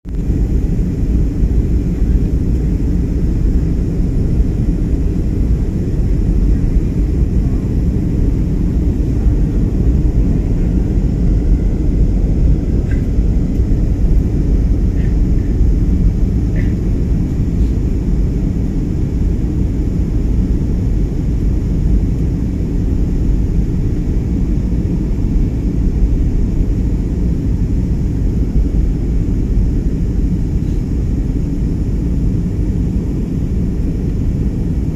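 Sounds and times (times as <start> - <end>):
airliner engines rumbling: 0.1 - 34.9.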